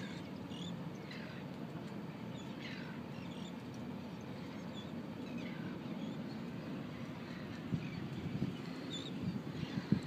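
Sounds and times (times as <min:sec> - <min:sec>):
wind and water rushing: 0:00.0 - 0:10.0.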